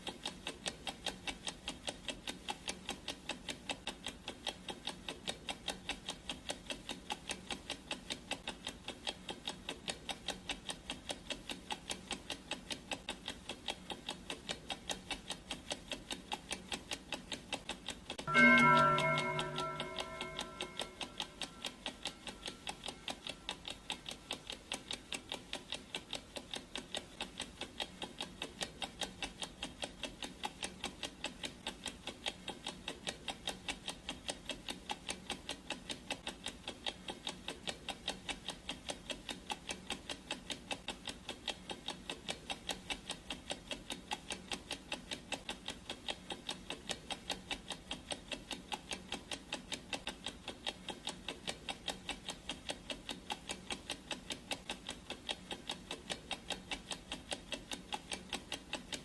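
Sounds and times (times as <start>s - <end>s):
clock ticking: 0.0s - 59.0s.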